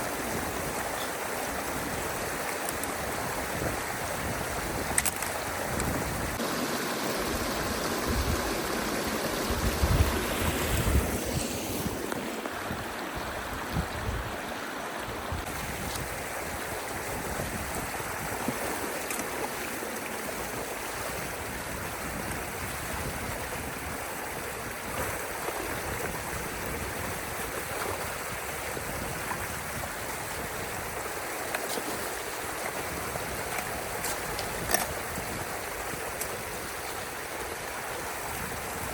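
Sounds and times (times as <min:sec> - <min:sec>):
water flowing through a channel: 0:00.0 - 0:38.9.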